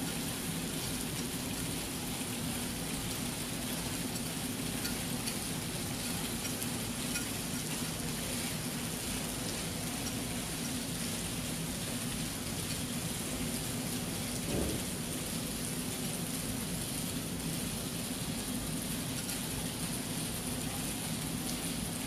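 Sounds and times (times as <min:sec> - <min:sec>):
steady outdoor noise: 0:00.0 - 0:22.0.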